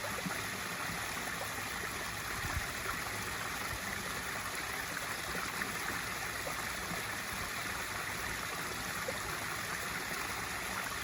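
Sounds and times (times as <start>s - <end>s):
water pouring into pool: 0.0s - 11.0s.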